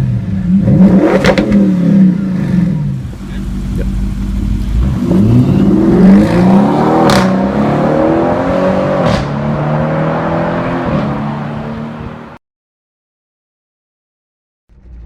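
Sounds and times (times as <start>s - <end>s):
car engine accelerating: 0.0s - 12.4s, 14.7s - 15.0s.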